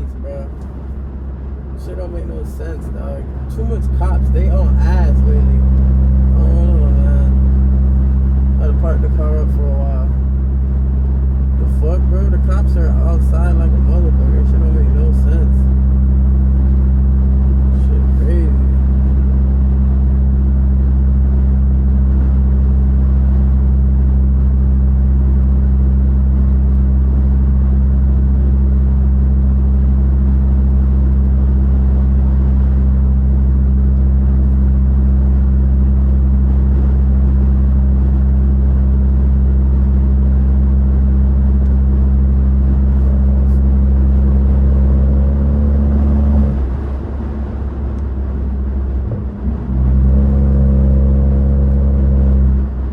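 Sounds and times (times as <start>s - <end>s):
car exhaust drone: 0.0s - 52.9s.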